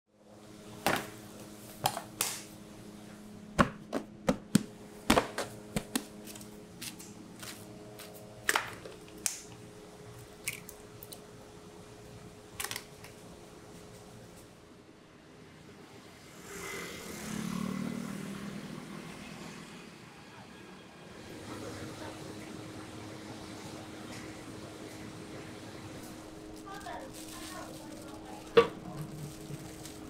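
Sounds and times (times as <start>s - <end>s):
kitchen equipment hum: 0.2s - 17.4s, 21.1s - 30.0s.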